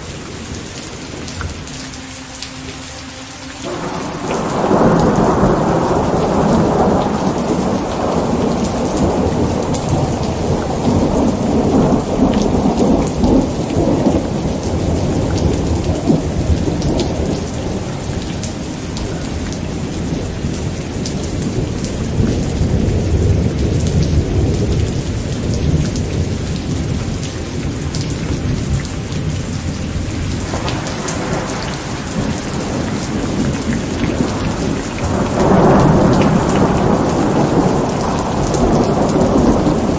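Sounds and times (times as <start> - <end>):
rain falling: 0.0 - 39.9
thunder rumbling: 3.6 - 39.9.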